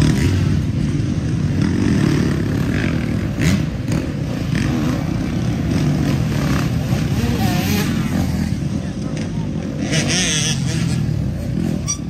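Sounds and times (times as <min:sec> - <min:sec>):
dirt bike engines running hard: 0:00.0 - 0:12.0.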